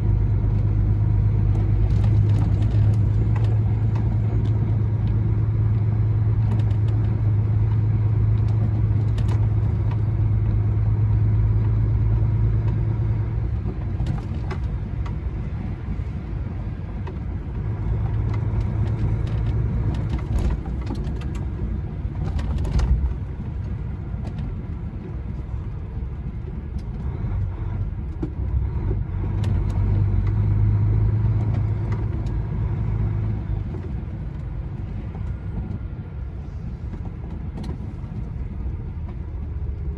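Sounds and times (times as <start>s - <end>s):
lorry diesel engine droning: 0.0s - 39.9s
road noise: 0.0s - 39.9s.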